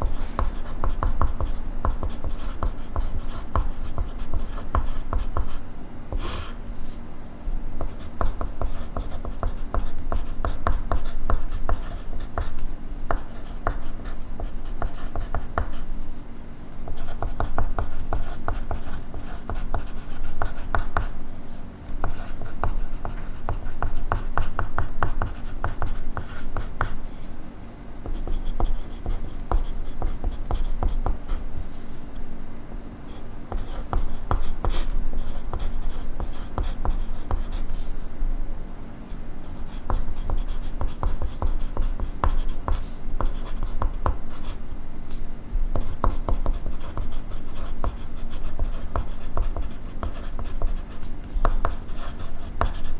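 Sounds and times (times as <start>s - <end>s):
pencil writing on paper: 0.0s - 6.6s, 7.8s - 15.9s, 16.8s - 27.0s, 28.0s - 31.8s, 33.1s - 38.0s, 39.5s - 52.9s.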